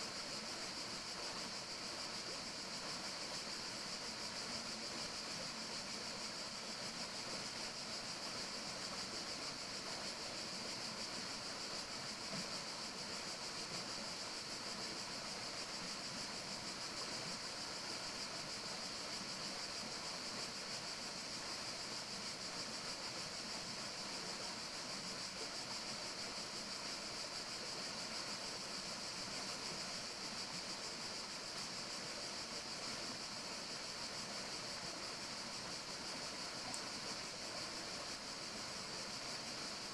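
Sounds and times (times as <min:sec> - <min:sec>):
forest ambience hiss: 0:00.0 - 0:39.9.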